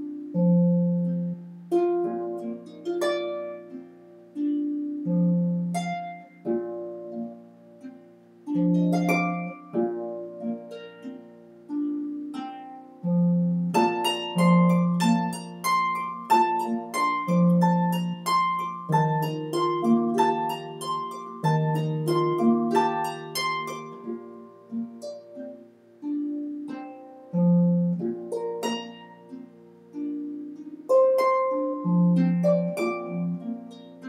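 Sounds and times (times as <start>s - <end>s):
harp playing: 0.0s - 34.0s.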